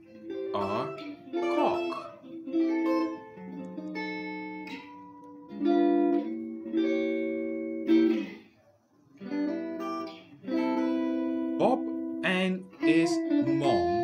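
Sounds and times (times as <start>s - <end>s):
guitar strumming chords: 0.0s - 8.5s, 9.2s - 14.0s.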